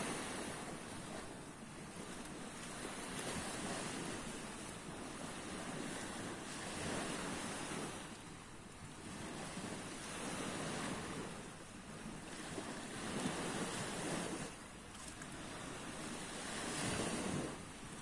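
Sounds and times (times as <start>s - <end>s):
small waves washing onto shore: 0.0s - 18.0s.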